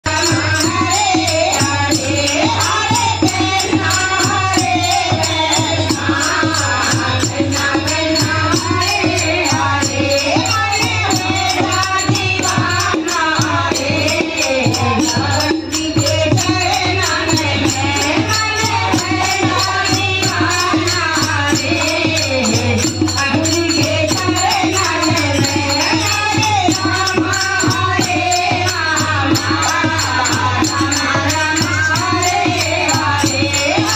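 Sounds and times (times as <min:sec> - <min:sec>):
group singing devotional song: 0:00.0 - 0:33.9
hand percussion and rattles: 0:00.0 - 0:33.9.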